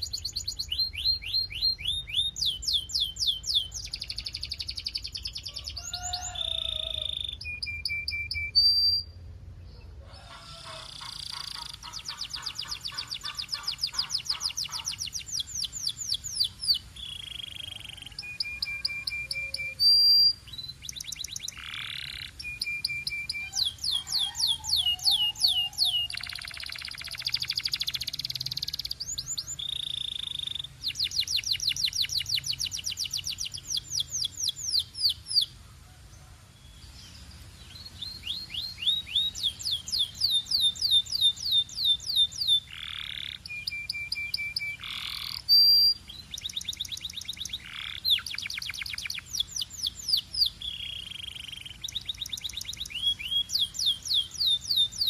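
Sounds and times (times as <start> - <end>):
canary singing: 0.0 - 35.6, 36.7 - 55.0.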